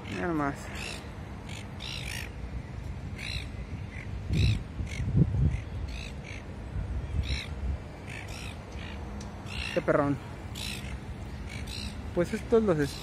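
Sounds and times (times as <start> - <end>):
birds squabbling with harsh calls: 0.0 - 13.0.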